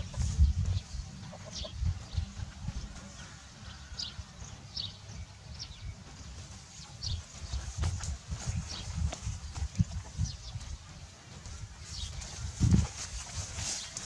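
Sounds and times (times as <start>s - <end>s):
birds chirping: 0.0s - 14.0s
wind rumble on microphone: 0.0s - 14.0s.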